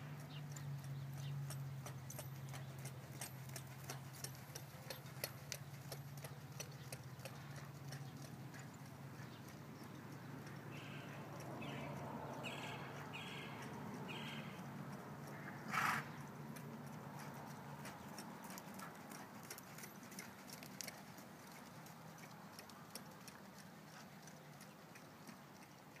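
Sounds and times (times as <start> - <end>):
hoofbeats on soft dirt: 0.0 - 26.0.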